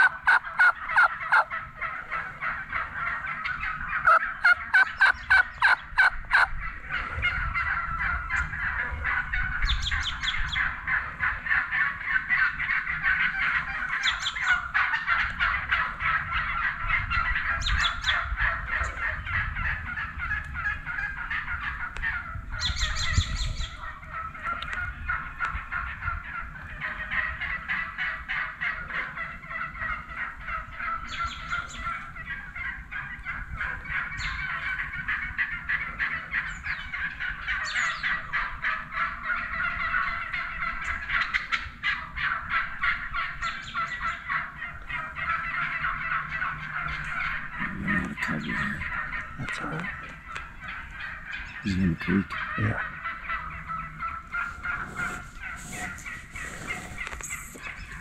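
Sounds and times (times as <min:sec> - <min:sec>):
turkey gobbles: 0:00.0 - 0:58.0
turkeys calling: 0:00.0 - 0:58.0.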